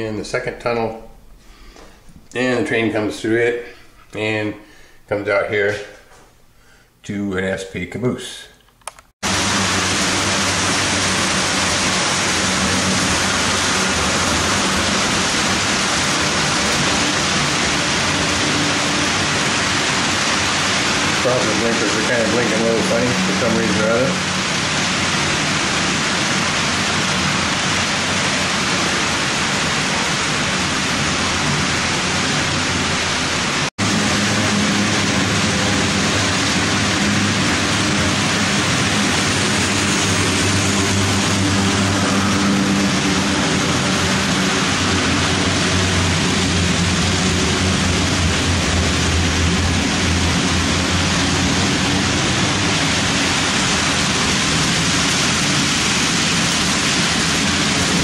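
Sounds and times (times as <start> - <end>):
model train wheels and motors rumbling: 8.9 - 58.0
low hum: 9.2 - 58.0.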